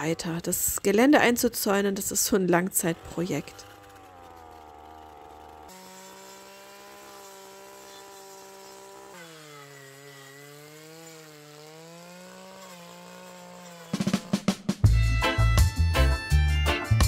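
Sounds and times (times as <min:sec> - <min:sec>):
brush cutter engine running: 0:00.0 - 0:14.6.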